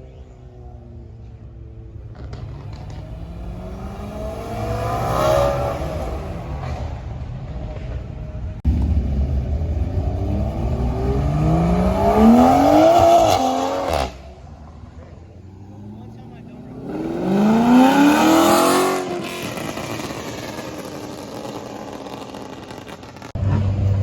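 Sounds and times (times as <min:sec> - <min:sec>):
car engines accelerating hard: 0:00.2 - 0:24.0.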